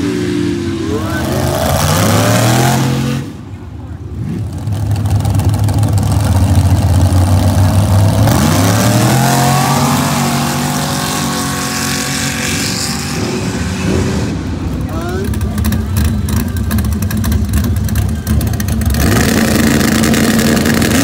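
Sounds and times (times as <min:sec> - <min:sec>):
truck engine revving and accelerating: 0:00.0 - 0:21.0.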